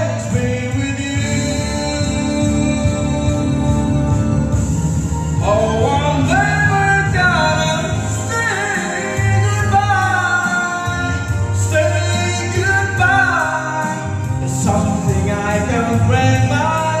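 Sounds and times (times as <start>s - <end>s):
instrumental backing music: 0.0s - 17.0s
man singing into a microphone: 0.0s - 17.0s.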